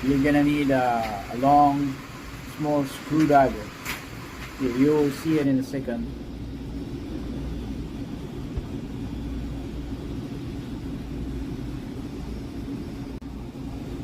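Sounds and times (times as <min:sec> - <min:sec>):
low machinery rumble and hum: 0:00.0 - 0:14.0.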